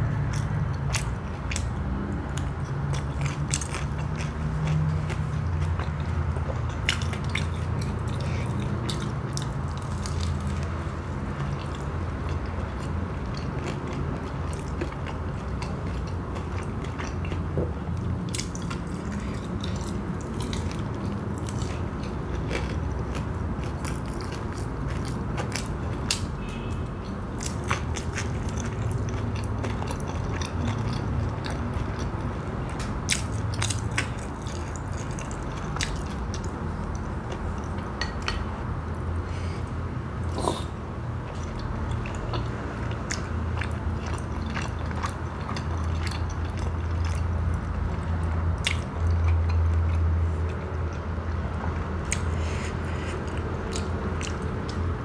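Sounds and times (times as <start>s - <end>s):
chewing crunchy fried snack: 0.2s - 38.4s, 40.2s - 55.0s.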